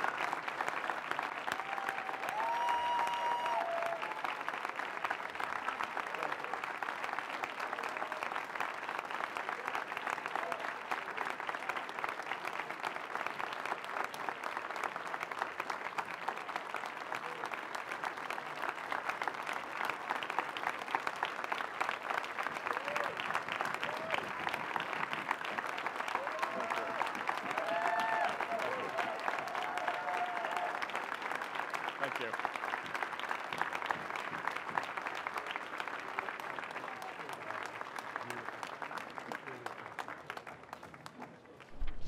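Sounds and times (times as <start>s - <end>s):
crowd applauding: 0.0s - 42.0s.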